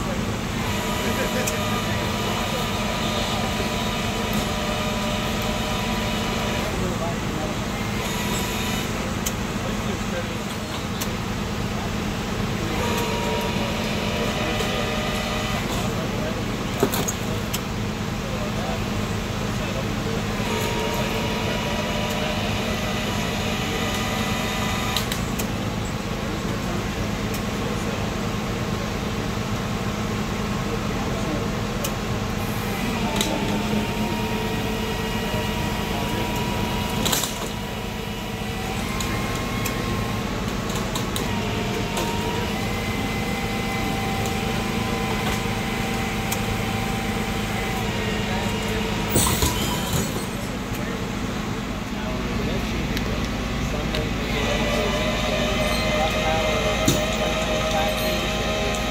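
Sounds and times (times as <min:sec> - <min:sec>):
truck winch humming and whining: 0:00.0 - 0:58.9.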